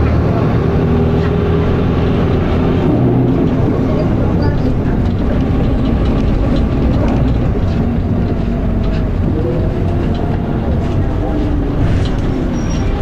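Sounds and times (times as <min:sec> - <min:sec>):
bus engine and drivetrain noise: 0:00.0 - 0:13.0.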